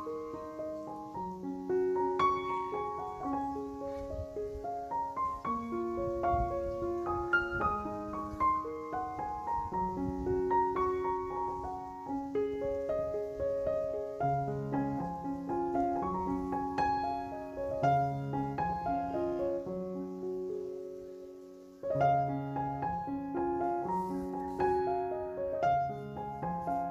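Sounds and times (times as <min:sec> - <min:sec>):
gentle piano melody: 0:00.0 - 0:26.9.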